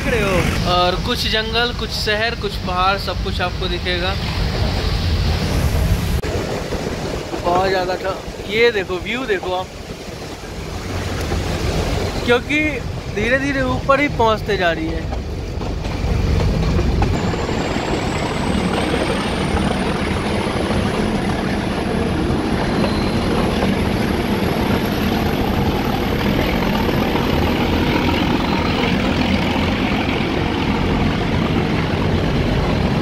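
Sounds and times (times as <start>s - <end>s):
train wheels rumbling on rails: 0.0s - 33.0s
wind noise: 0.0s - 33.0s.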